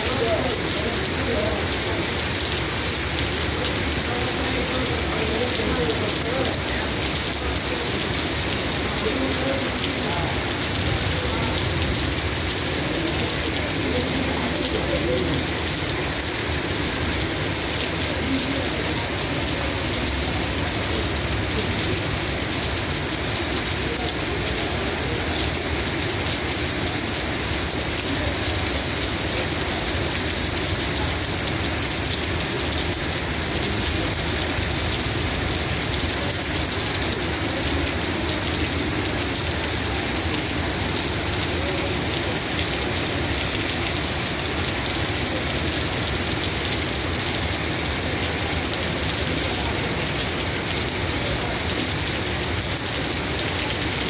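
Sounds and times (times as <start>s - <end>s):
heavy rain on pavement: 0.0s - 54.0s.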